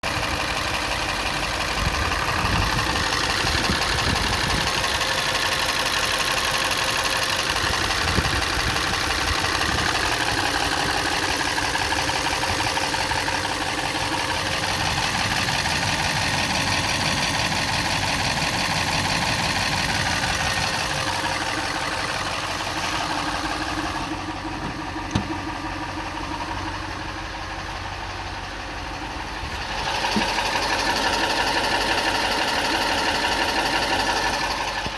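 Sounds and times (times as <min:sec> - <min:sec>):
car engine idling: 0:00.0 - 0:34.9
valvetrain ticking: 0:00.1 - 0:34.9.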